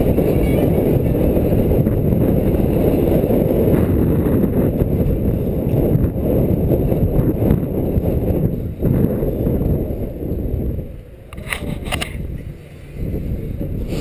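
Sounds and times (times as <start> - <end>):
skate wheels rolling on concrete: 0.0 - 14.0.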